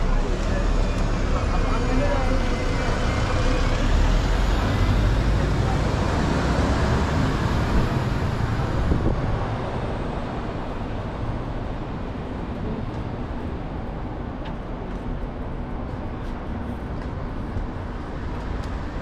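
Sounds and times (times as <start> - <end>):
heavy vehicle engine rumble: 0.0 - 19.0.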